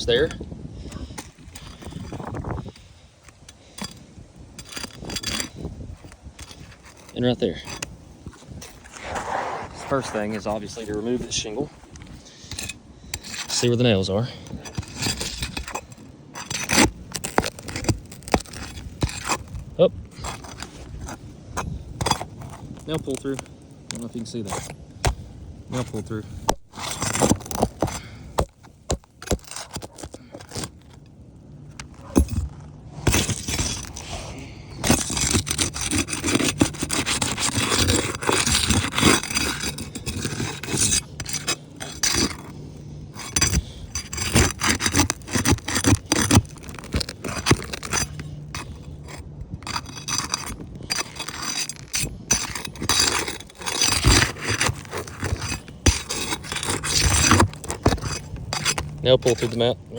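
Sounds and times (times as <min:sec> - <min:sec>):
scraping of roof shingles: 0:00.0 - 0:59.9.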